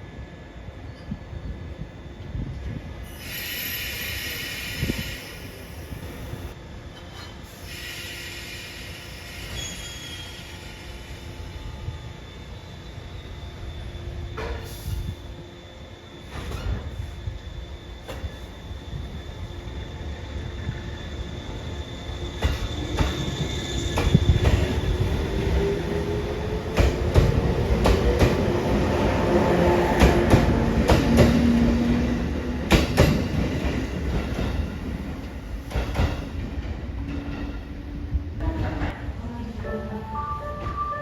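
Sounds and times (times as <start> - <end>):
train running on rails: 0.0 - 41.0.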